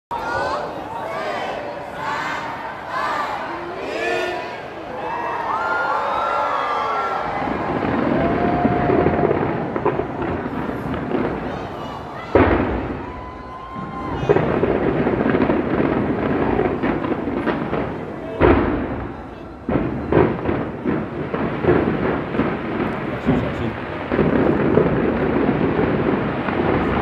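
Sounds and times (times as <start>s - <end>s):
fireworks booming: 0.1s - 27.0s
fireworks crackling: 0.2s - 27.0s.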